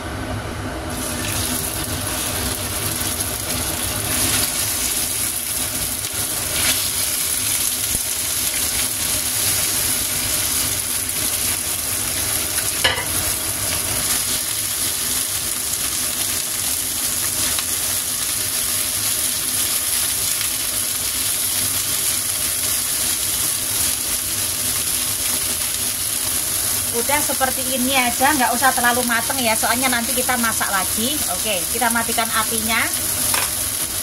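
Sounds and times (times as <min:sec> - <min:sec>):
chicken sizzling in hot oil: 0:00.8 - 0:34.0.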